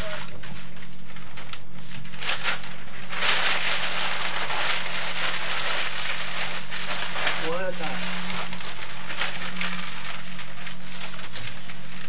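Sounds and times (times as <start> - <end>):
low electrical hum: 0.0 - 12.0
paper crumpling and rustling: 0.0 - 12.0.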